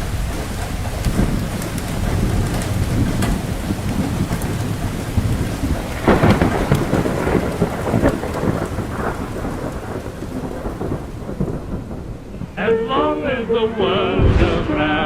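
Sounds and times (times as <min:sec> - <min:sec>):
steady rain: 0:00.0 - 0:13.5
thunder rumbling: 0:00.0 - 0:15.0.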